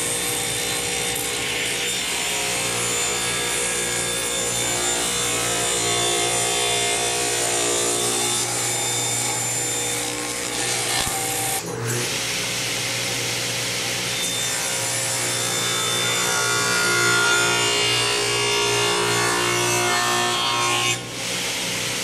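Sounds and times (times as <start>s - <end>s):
table saw cutting wood: 0.0s - 22.0s.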